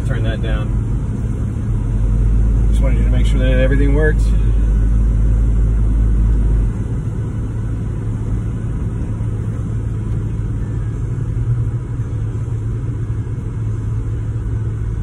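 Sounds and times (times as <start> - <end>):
pickup engine running: 0.0 - 15.0
road noise: 0.0 - 15.0.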